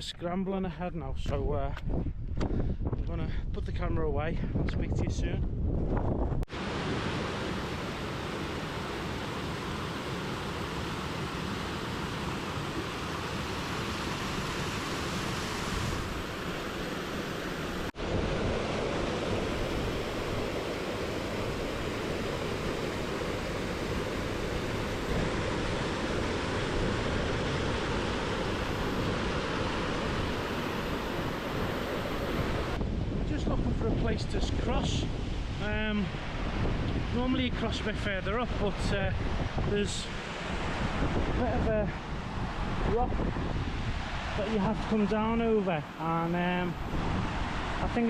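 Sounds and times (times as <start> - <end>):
rushing mountain stream: 6.5 - 34.0, 35.3 - 48.0.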